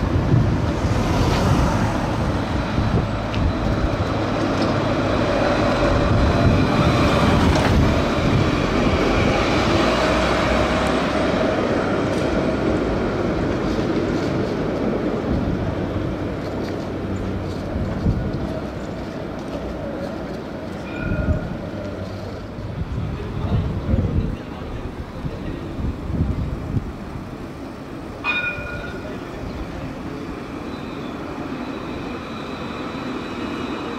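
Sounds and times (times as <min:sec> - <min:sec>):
tram running on tracks: 0:00.0 - 0:33.9.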